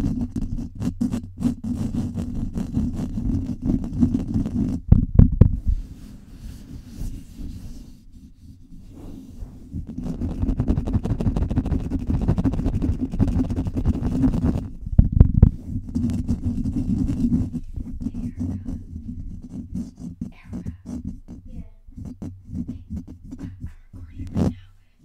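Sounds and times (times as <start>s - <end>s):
scratching on microphone: 0.0s - 24.9s.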